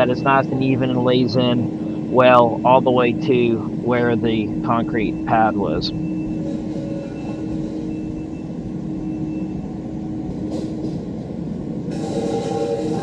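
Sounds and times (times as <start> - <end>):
heavy machine engine running: 0.0 - 13.0.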